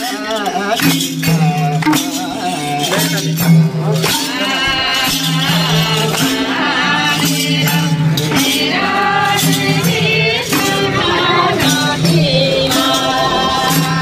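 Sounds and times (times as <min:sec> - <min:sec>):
group singing folk song: 0:00.0 - 0:14.0
hand drum strokes: 0:00.0 - 0:14.0.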